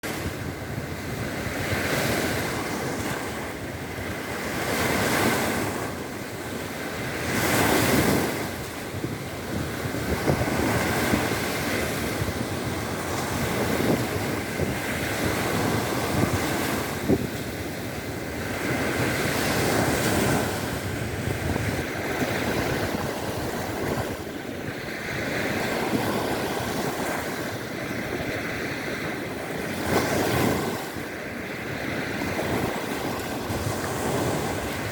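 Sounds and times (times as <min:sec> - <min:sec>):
waves breaking on shore: 0:00.0 - 0:34.9
wind: 0:00.0 - 0:34.9.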